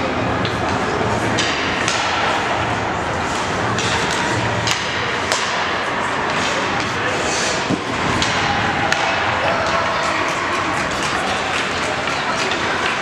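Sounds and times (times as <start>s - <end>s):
voices echoing in arena: 0.0s - 13.0s
hockey sticks and pucks clacking: 0.3s - 13.0s.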